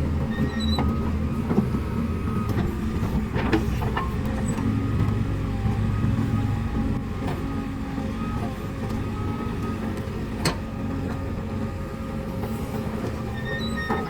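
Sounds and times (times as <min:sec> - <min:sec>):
diesel engines running: 0:00.0 - 0:14.0.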